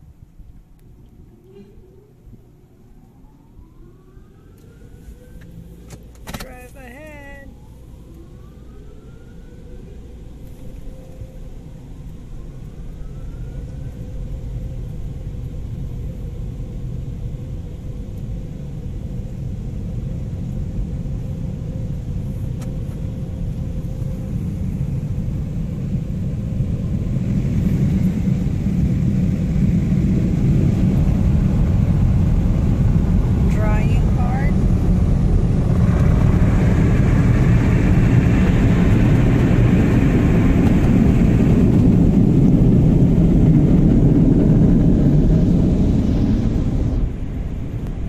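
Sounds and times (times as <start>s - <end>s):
car wash machinery rumble: 0.0s - 48.0s
faint rising whines: 0.0s - 48.0s
faint steady hum: 0.0s - 48.0s.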